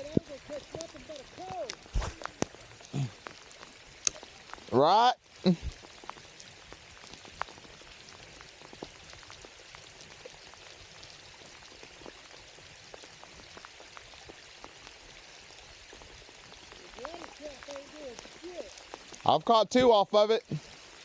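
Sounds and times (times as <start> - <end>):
raindrops ticking close by: 0.0 - 21.0
steady rain hiss: 0.0 - 21.0.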